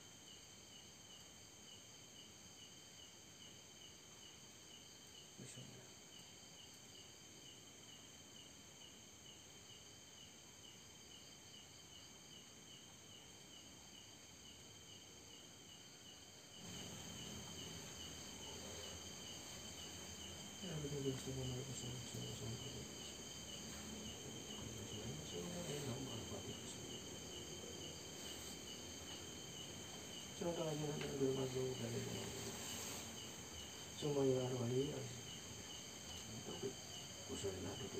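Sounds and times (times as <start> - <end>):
crickets chirping: 0.0 - 37.9.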